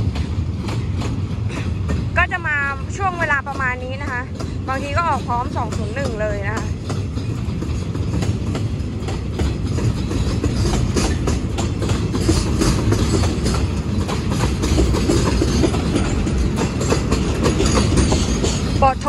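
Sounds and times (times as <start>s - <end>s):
train rumbling on track: 0.0s - 19.0s
wheels clacking over rail joints: 0.0s - 19.0s.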